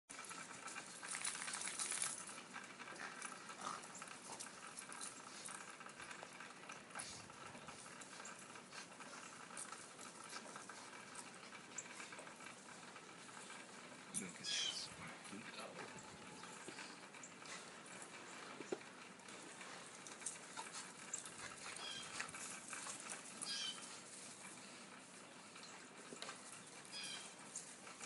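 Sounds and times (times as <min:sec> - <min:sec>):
dogs crunching through snow: 0:00.3 - 0:28.0.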